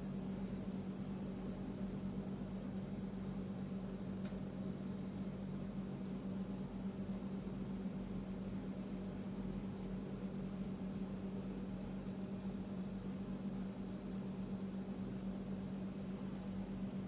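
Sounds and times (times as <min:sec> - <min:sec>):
steady low hum with hiss: 0:00.0 - 0:17.0.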